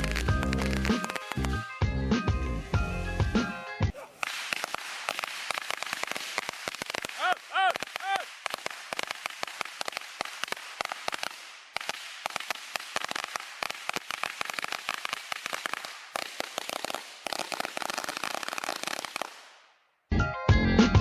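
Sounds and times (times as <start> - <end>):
firecrackers popping: 0.0 - 19.9.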